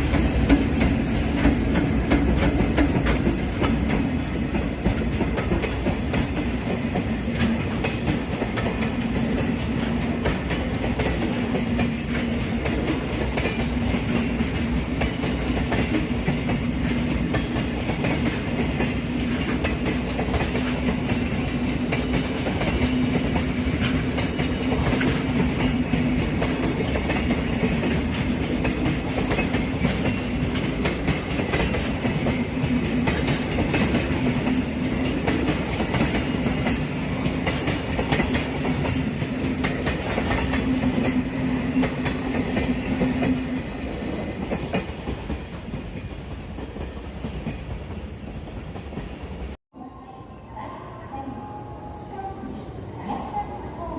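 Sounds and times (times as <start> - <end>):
train wheels clattering over rail joints: 0.0 - 49.5.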